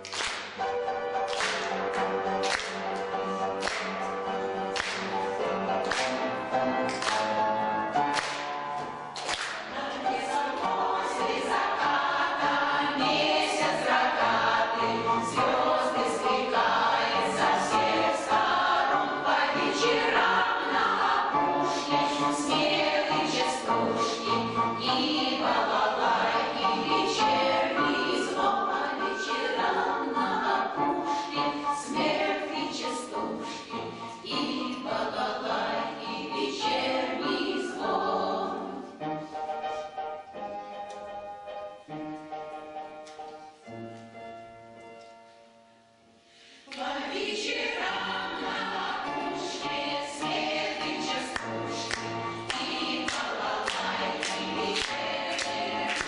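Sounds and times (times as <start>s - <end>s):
steady accompaniment: 0.0s - 56.0s
choir singing: 3.0s - 40.6s, 46.4s - 56.0s.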